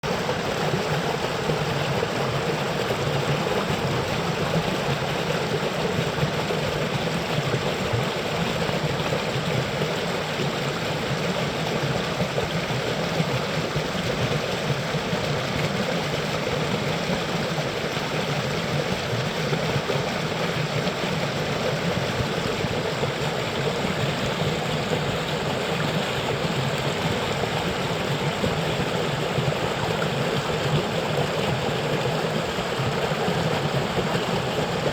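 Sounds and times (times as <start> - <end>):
water running steadily: 0.0 - 34.9.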